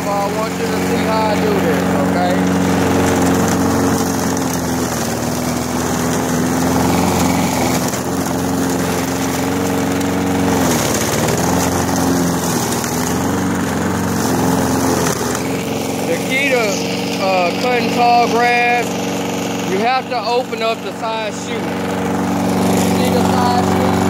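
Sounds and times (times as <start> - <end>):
lawnmower engine cutting grass: 0.0 - 24.0.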